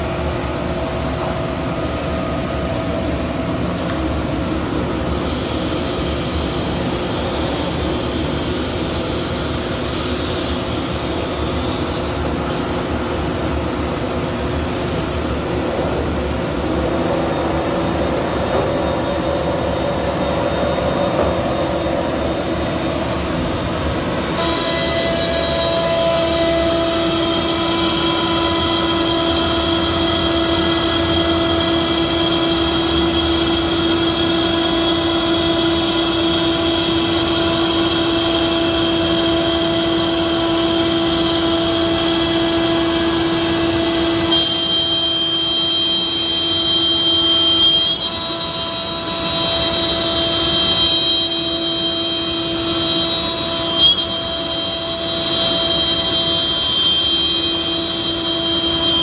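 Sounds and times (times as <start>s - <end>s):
cnc router whining cutting wood: 0.0s - 59.0s.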